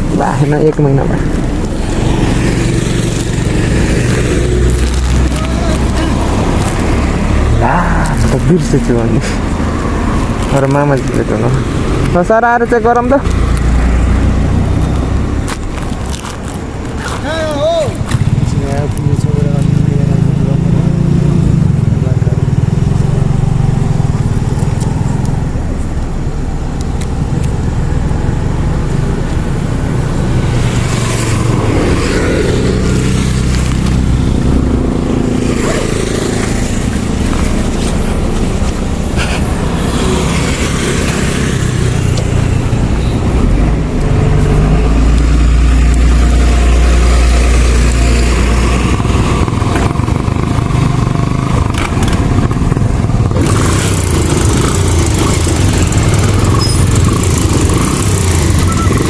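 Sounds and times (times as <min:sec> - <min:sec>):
motorcycle engine running: 0:00.0 - 0:45.2, 0:45.9 - 0:59.0
road noise: 0:00.0 - 0:59.0.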